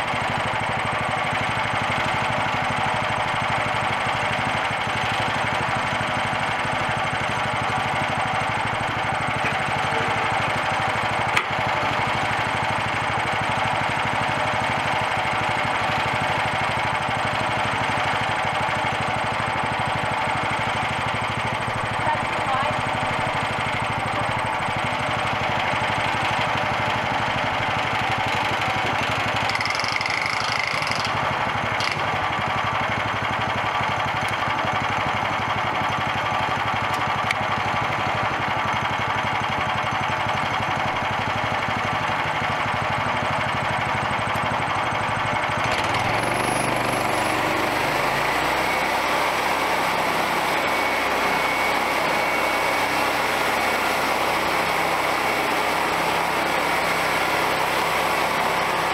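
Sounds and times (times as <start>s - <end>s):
sawmill engine running: 0.0s - 58.9s.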